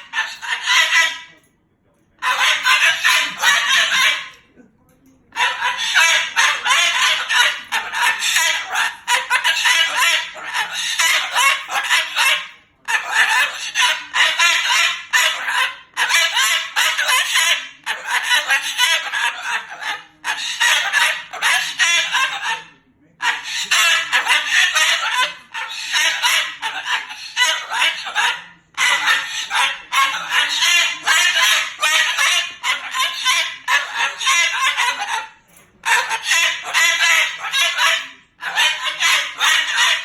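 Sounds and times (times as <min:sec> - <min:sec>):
cockatoo calling loudly: 0:00.0 - 0:01.4, 0:02.2 - 0:04.5, 0:05.3 - 0:40.0.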